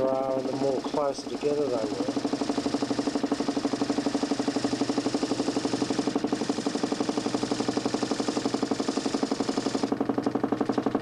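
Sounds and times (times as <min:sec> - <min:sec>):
motor humming with fast pulses: 0:00.0 - 0:11.0.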